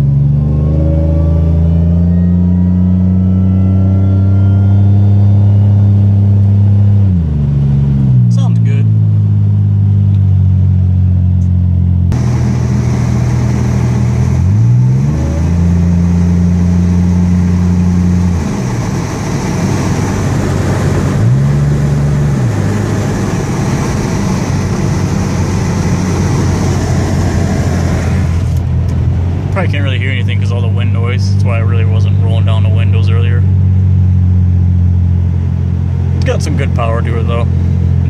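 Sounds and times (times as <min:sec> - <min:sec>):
car engine drone: 0:00.0 - 0:38.0.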